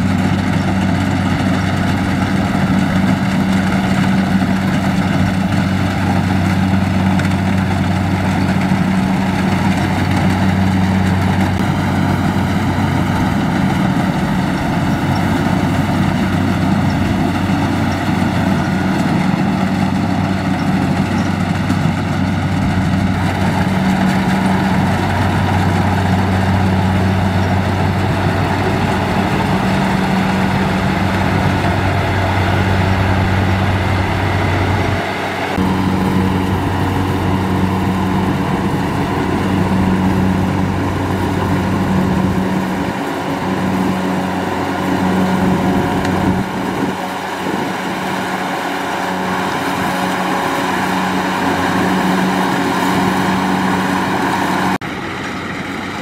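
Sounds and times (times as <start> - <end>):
combine harvester diesel engine running: 0.0 - 56.0.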